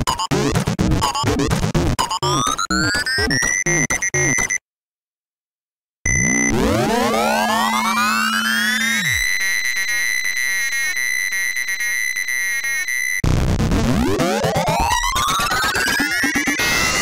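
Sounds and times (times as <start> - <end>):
chiptune music: 0.0 - 4.6, 6.1 - 13.3, 13.9 - 17.0.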